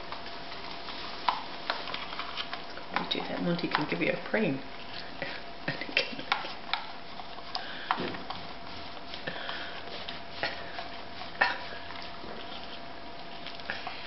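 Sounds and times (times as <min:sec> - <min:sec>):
dog licking and smacking: 0:00.0 - 0:14.0.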